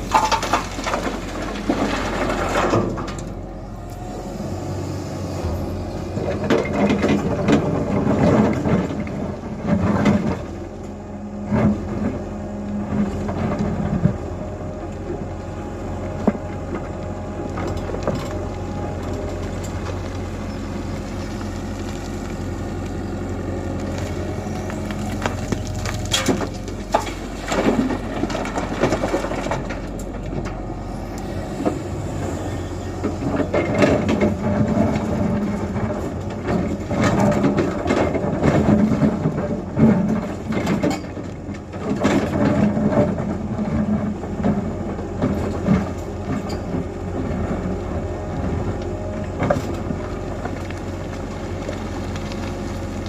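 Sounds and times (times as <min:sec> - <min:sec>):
excavator diesel engine: 0:00.0 - 0:53.0.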